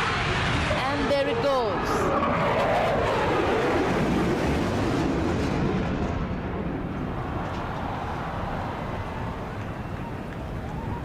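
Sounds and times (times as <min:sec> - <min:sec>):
jet engines flying past: 0:00.0 - 0:11.0.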